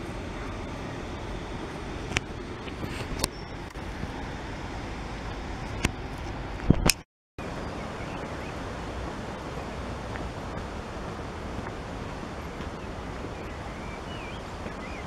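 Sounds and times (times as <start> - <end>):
outdoor rushing noise: 0.0 - 15.0.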